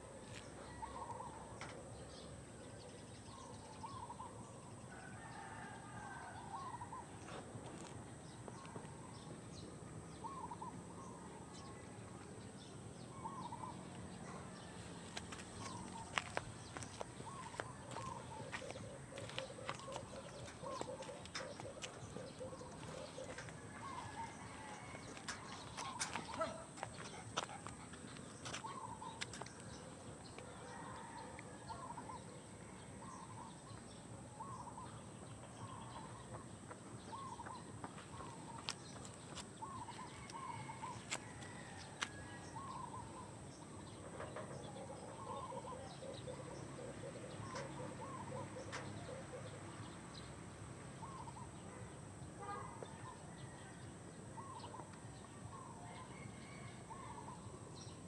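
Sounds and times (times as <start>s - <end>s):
birds calling: 0.0s - 11.8s, 12.6s - 32.4s, 33.0s - 50.4s.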